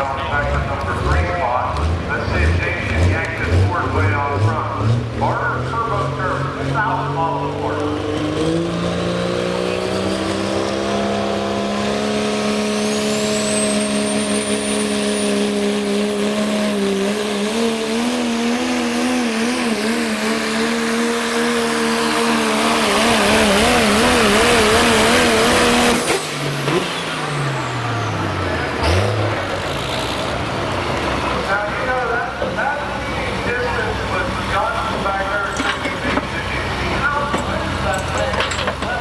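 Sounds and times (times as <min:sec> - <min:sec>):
engine winding down: 0:00.0 - 0:39.0
truck engine revving under load: 0:00.0 - 0:39.0.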